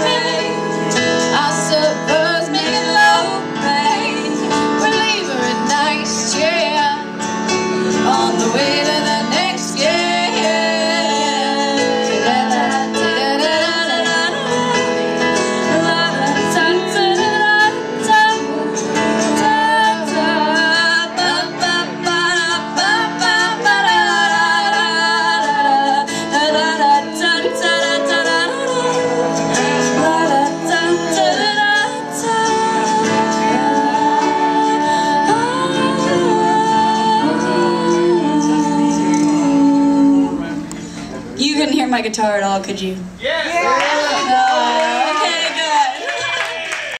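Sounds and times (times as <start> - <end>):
woman singing: 0.0 - 40.8, 44.0 - 45.9
electric keyboard: 0.0 - 42.3
acoustic guitar: 0.0 - 43.2.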